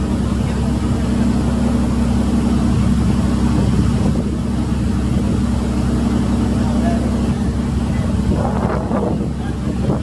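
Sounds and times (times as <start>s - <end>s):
boat engine drone: 0.0s - 10.0s
rushing water: 0.0s - 10.0s
wind: 0.0s - 10.0s.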